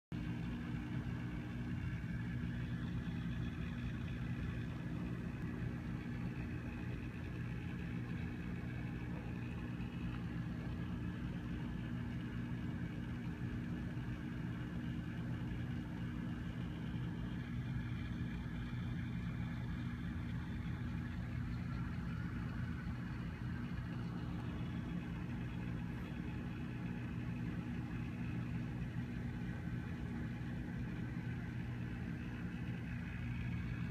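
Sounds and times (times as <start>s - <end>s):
aquarium equipment humming: 0.1s - 33.9s.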